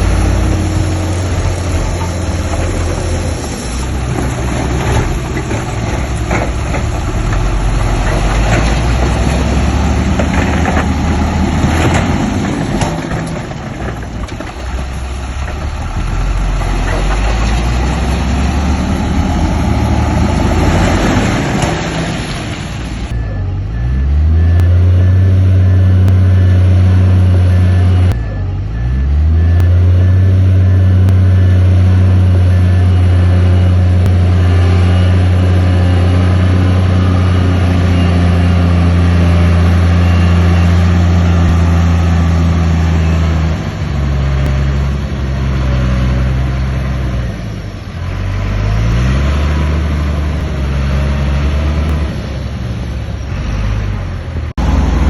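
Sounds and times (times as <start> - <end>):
heavy diesel engine revving: 0.0 - 55.0.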